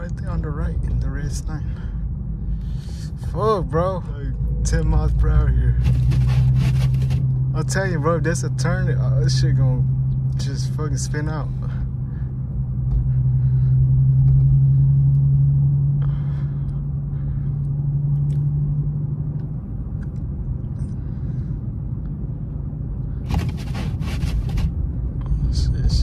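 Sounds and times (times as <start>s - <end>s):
car engine drone: 0.0s - 26.0s
road rumble: 0.0s - 26.0s.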